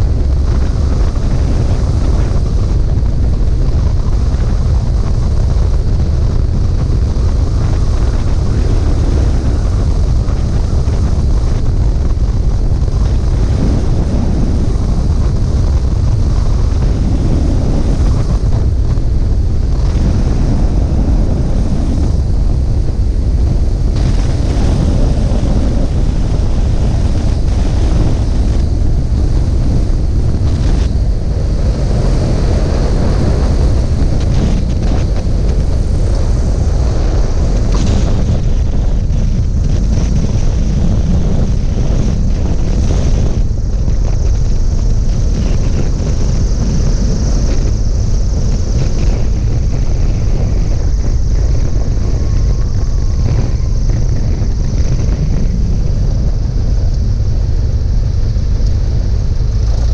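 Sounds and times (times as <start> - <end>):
propeller aircraft engine: 0.0 - 59.9
wind buffeting microphone: 0.0 - 59.9.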